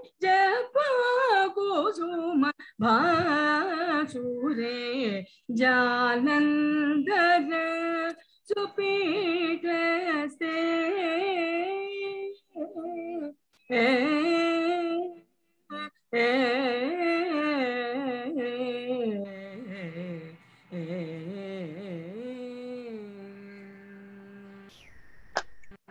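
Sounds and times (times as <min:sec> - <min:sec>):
woman singing: 0:00.0 - 0:24.7.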